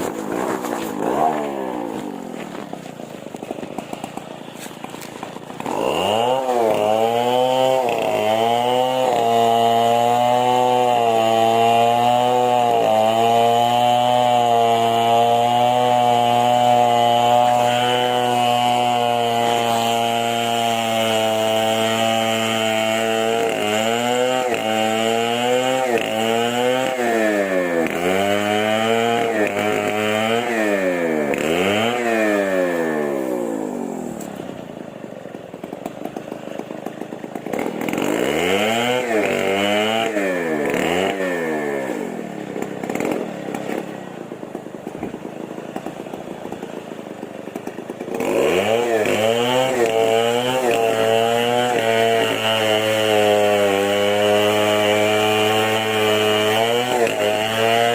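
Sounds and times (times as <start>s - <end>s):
chainsaw engine revving: 0.0s - 57.9s.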